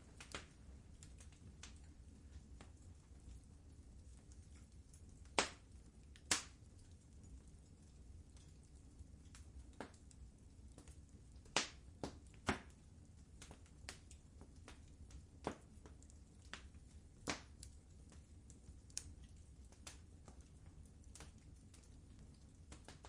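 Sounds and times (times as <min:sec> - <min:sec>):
low rumble of burning: 0:00.0 - 0:23.0
wood fire crackling: 0:00.0 - 0:23.0.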